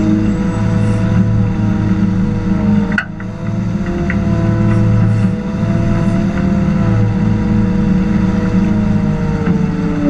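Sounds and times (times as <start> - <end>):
dump truck diesel engine droning: 0.0 - 10.0.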